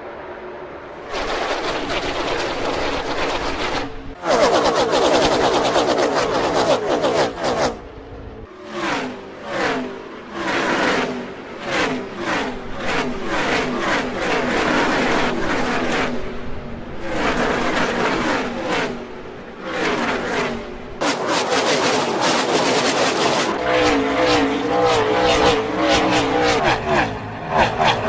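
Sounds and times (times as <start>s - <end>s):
race cars passing by: 0.0s - 28.0s.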